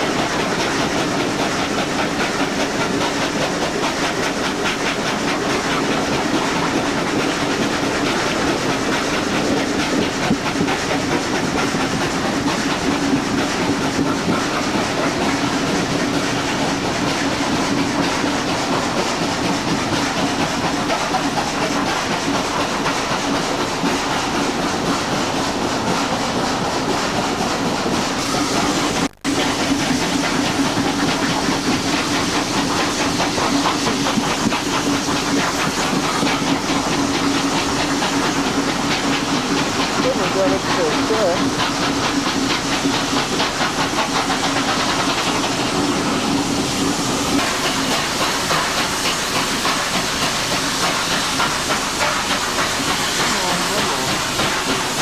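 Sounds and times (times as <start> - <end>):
carriage wheels on rails: 0.0 - 55.0
steam locomotives working hard: 0.0 - 55.0.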